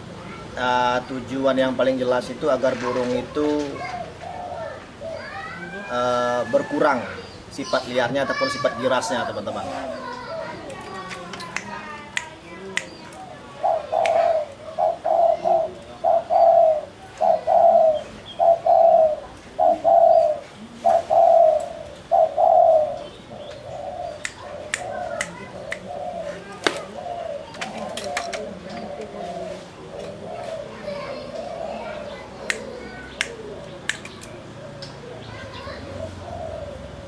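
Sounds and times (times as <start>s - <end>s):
dove cooing: 2.1s - 7.2s, 8.4s - 11.1s, 13.0s - 37.0s.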